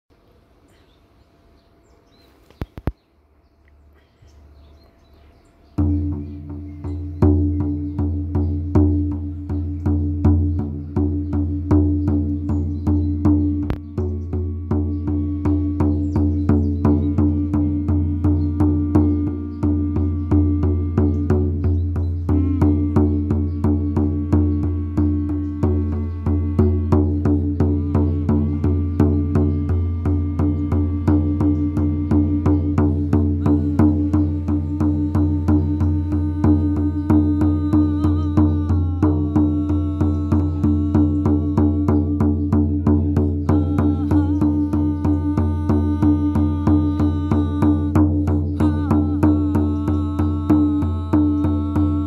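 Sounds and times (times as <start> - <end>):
frame drum beating: 5.7 - 52.0.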